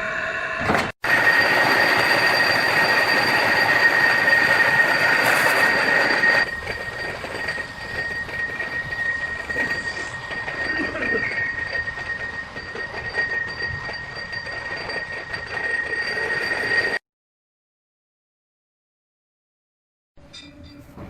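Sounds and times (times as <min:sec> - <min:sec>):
machine high-pitched whine: 0:00.0 - 0:17.0.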